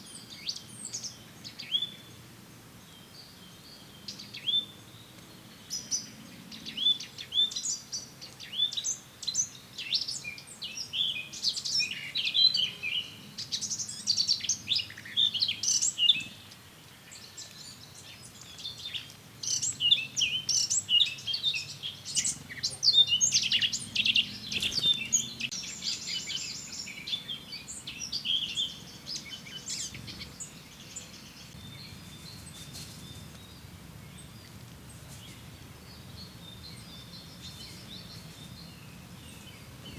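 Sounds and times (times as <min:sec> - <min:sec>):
songbirds chirping and singing: 0:02.8 - 0:39.9.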